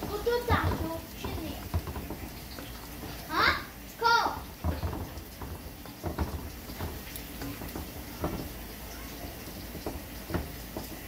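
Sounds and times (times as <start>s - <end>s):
curry sizzling and bubbling: 0.0s - 11.0s
spatula scraping metal pot: 0.0s - 11.0s.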